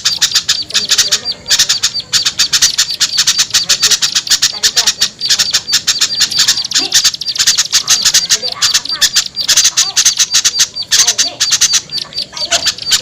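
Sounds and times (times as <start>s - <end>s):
songbirds chattering harshly: 0.0s - 13.0s.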